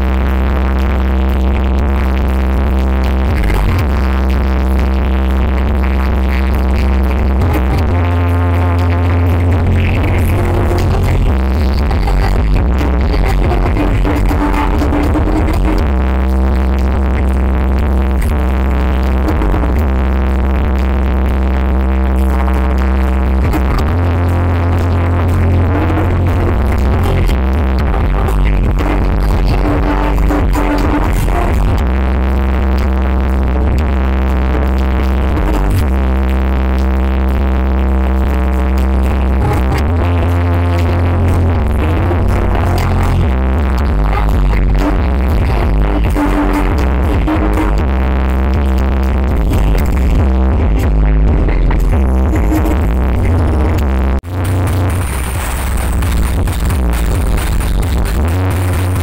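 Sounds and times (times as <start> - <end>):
electronic dance music: 0.0 - 59.0.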